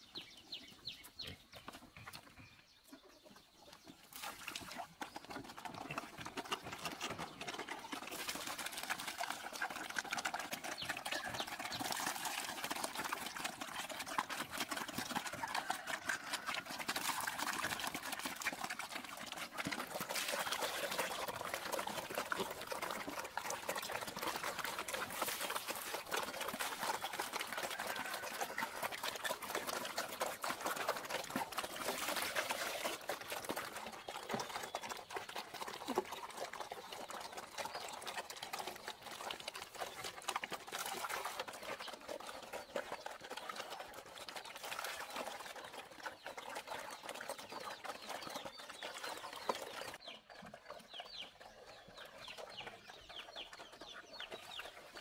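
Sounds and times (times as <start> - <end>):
pigs slurping and chomping: 0.0 - 55.0.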